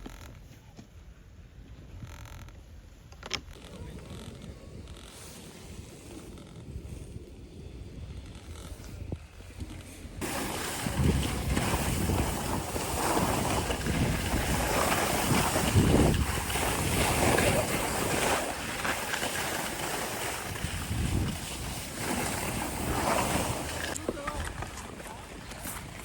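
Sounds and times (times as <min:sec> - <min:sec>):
wind buffeting microphone: 0:03.6 - 0:26.0.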